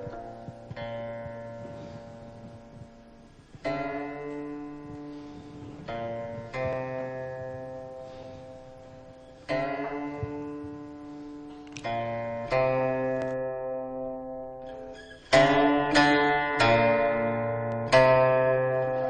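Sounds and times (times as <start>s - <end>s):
plucked string instrument: 0.0s - 19.0s.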